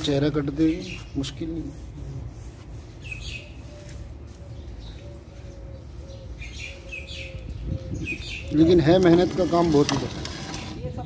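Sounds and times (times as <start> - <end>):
small birds chirping: 0.0 - 9.7.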